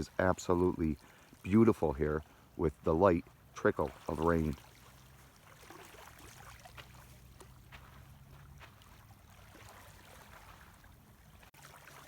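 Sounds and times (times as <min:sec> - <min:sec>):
water lapping at shoreline: 0:00.0 - 0:12.0.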